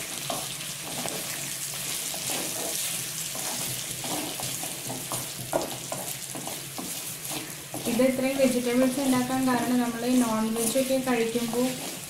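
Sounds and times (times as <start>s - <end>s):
meat and vegetables sizzling: 0.0s - 12.0s
wooden spatula scraping: 0.0s - 12.0s.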